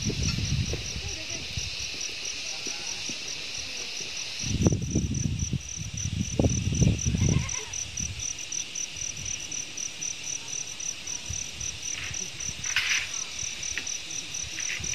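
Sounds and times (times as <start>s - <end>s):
insect drone: 0.0s - 14.9s
insects chirping: 0.0s - 14.9s.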